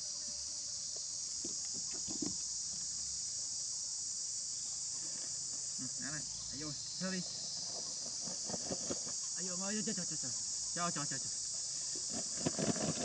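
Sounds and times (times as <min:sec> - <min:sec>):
chorus of forest insects: 0:00.0 - 0:13.0.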